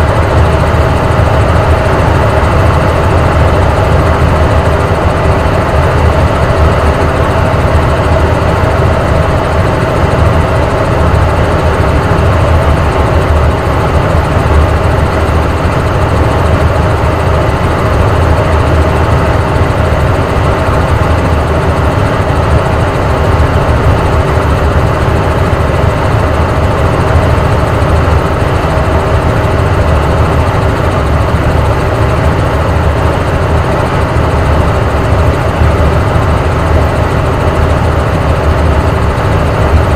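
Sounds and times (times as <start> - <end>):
helicopter in flight: 0.0 - 39.9.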